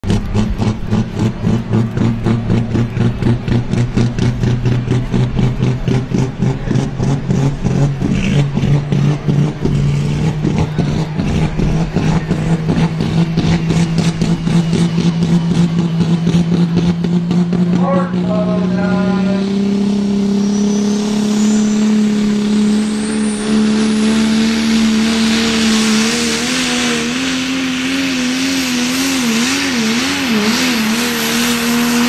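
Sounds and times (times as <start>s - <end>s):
diesel truck engine loping: 0.0s - 32.0s.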